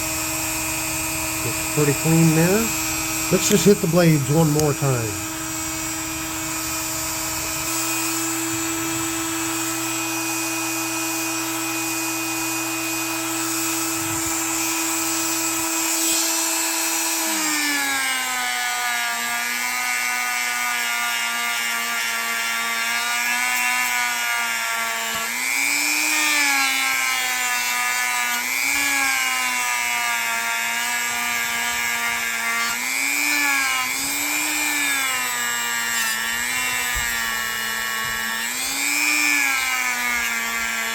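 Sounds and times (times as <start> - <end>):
power tool motor whine: 0.0 - 40.9.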